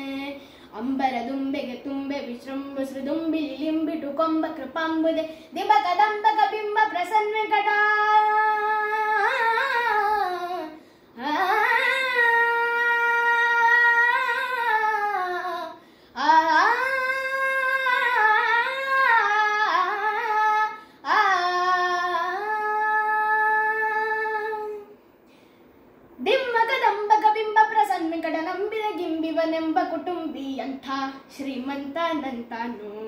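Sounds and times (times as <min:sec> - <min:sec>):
boy singing unaccompanied: 0:00.0 - 0:24.9, 0:26.2 - 0:33.0.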